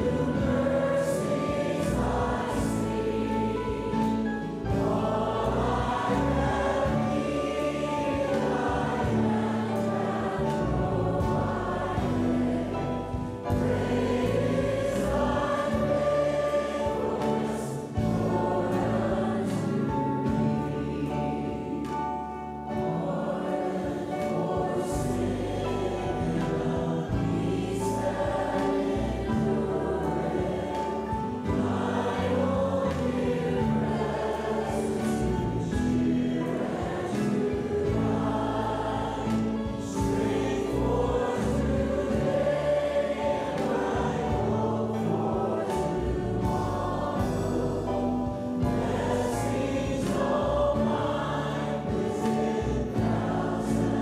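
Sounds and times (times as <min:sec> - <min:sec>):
choir singing gospel: 0:00.0 - 0:54.0.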